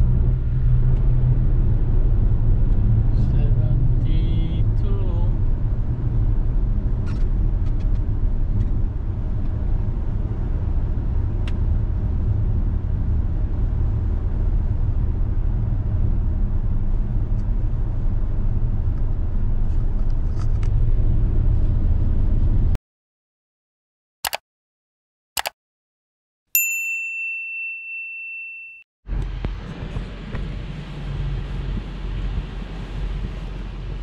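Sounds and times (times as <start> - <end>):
car interior road and engine rumble: 0.0 - 22.8, 29.1 - 34.0.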